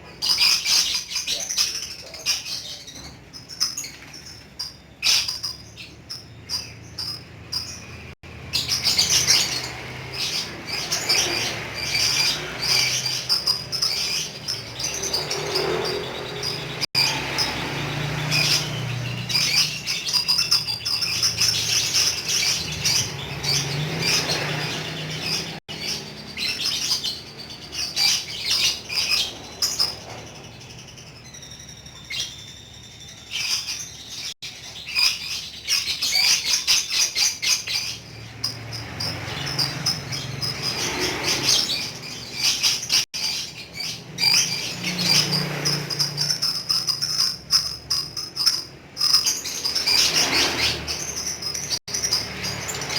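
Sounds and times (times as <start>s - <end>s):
lovebird chattering: 0.1s - 52.9s.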